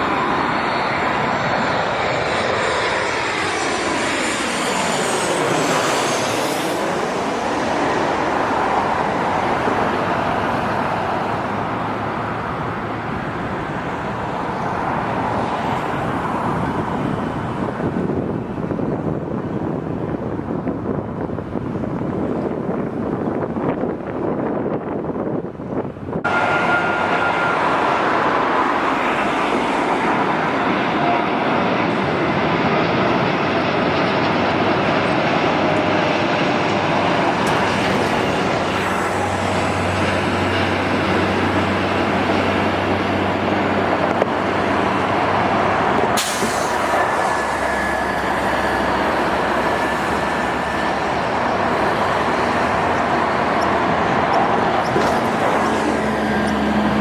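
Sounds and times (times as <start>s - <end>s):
high engine whine: 0.0s - 57.0s
jet engines rushing: 0.0s - 57.0s.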